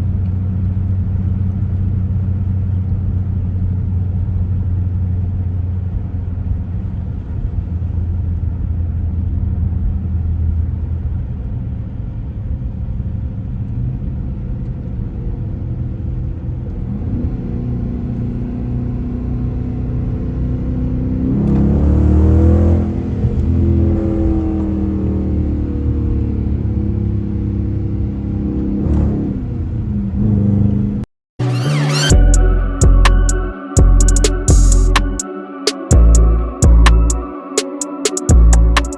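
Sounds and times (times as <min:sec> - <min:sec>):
car engine droning and revving: 0:00.0 - 0:35.2, 0:35.9 - 0:37.3, 0:38.3 - 0:38.9.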